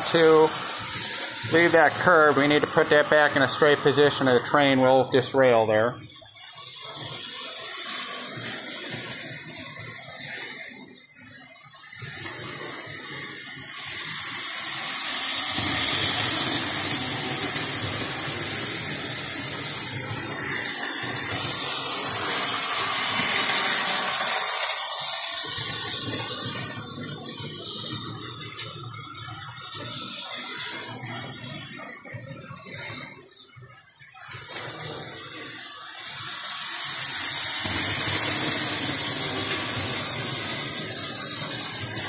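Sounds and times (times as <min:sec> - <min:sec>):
model train whirring on metal track: 0:00.0 - 0:42.0.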